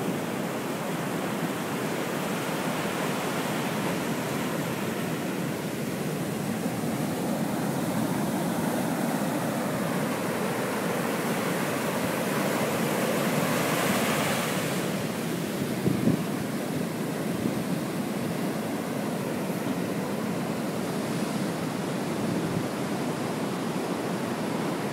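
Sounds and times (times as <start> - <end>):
surf washing up beach: 0.0 - 24.9.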